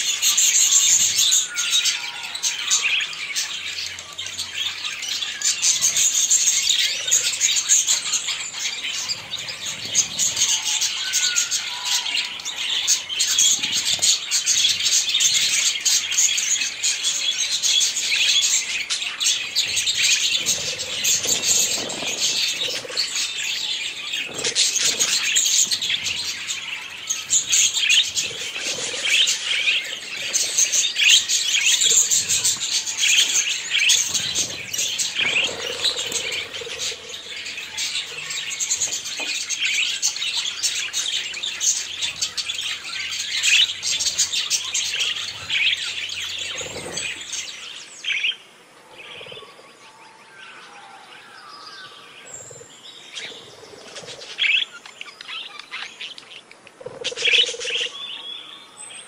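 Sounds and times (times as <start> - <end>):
budgerigars chattering and chirping: 0.0 - 48.4, 51.8 - 58.3.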